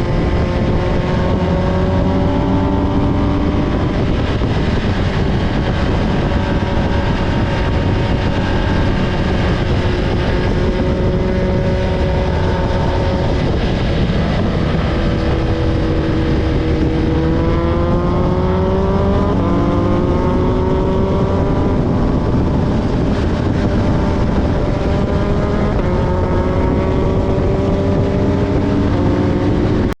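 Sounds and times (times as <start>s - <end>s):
heavy low rumble: 0.0s - 30.0s
vehicle engine running: 0.0s - 30.0s.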